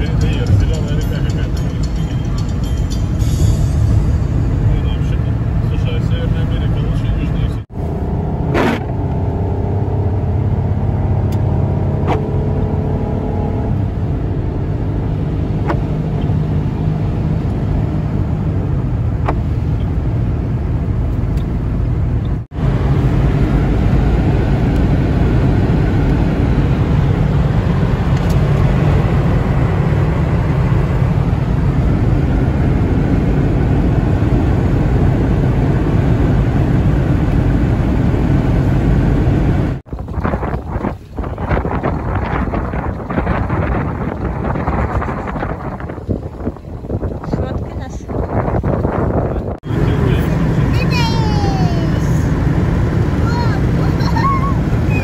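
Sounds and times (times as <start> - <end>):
car cabin road noise: 0.0 - 55.0.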